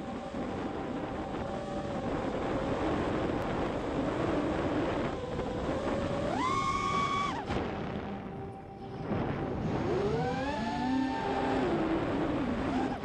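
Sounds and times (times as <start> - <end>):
quadcopter motors whining: 0.0 - 7.6, 9.6 - 13.0
wind rush: 0.0 - 13.0.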